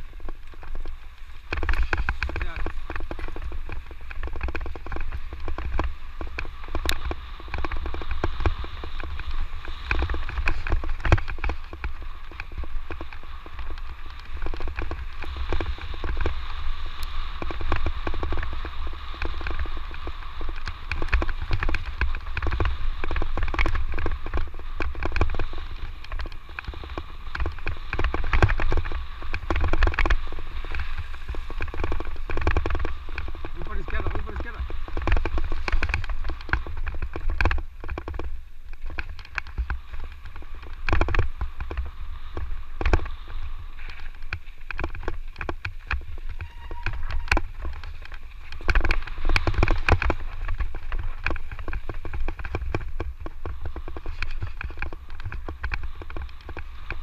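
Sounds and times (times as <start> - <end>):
bike rattling over rough ground: 0.0 - 57.0
steady low rumble: 0.0 - 57.0.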